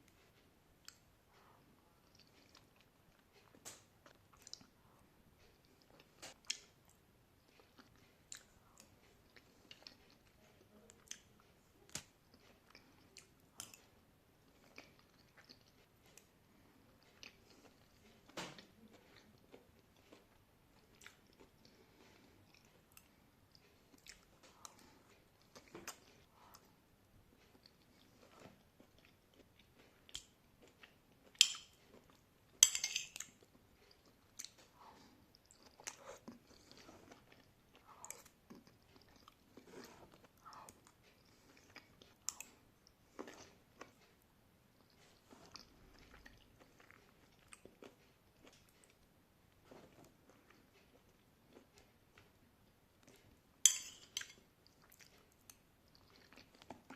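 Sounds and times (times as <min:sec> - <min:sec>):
person chewing and crunching food: 0:00.0 - 0:56.9.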